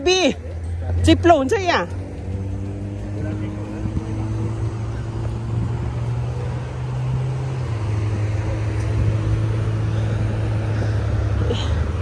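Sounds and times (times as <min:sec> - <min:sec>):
highway traffic drone: 0:00.0 - 0:12.0.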